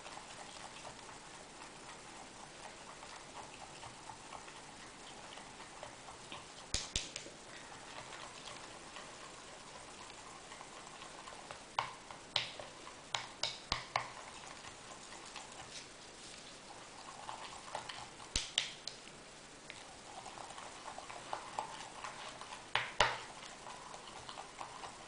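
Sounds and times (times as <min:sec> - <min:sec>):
soft wet ticking stirring: 0:00.0 - 0:25.0.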